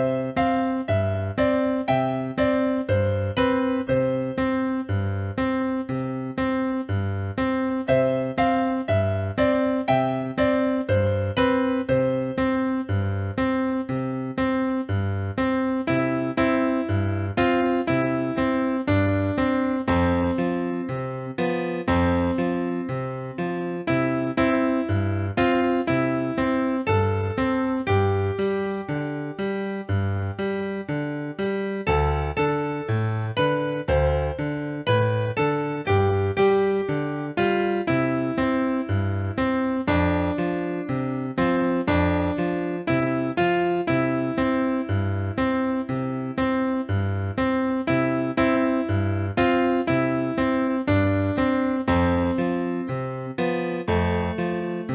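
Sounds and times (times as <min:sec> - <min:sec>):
piano chords: 0:00.0 - 0:54.9.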